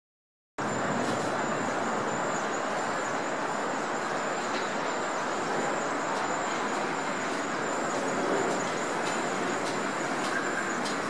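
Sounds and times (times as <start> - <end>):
city traffic: 0.6 - 11.0
faint high whine: 0.6 - 11.0.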